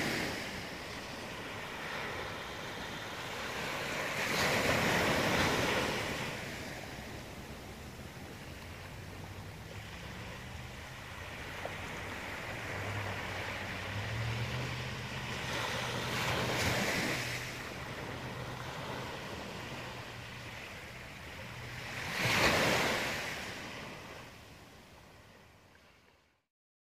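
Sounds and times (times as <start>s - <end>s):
small waves breaking on sand: 0.0s - 26.4s.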